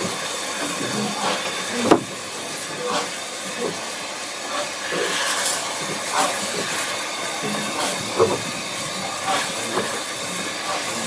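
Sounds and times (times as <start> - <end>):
steam hissing: 0.0 - 11.0
steam locomotive exhaust beats: 0.0 - 11.0.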